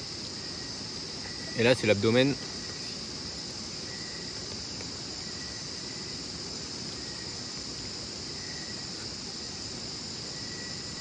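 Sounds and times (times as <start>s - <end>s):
high-pitched insect chorus: 0.0s - 11.0s
low insect trill: 0.0s - 11.0s.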